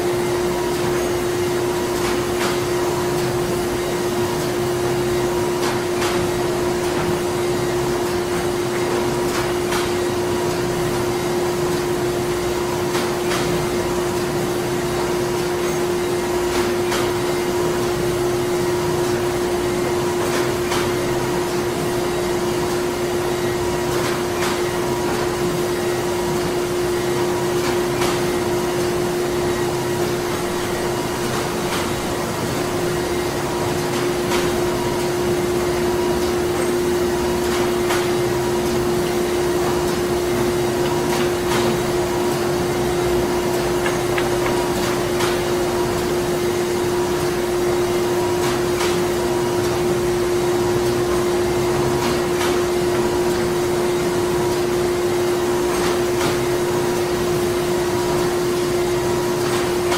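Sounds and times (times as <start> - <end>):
printing machinery humming: 0.0 - 59.9.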